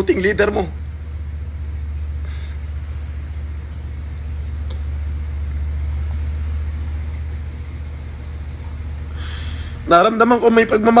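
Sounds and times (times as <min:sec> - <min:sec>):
faint hiss: 0:00.0 - 0:10.9
low rumble: 0:00.0 - 0:10.9.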